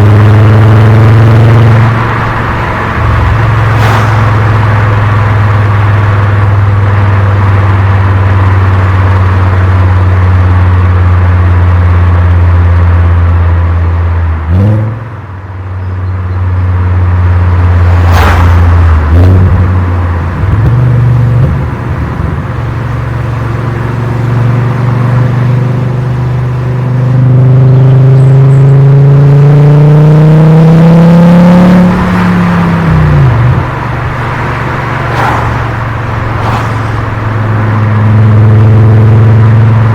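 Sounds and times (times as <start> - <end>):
car engine and exhaust driving: 0.0 - 39.9.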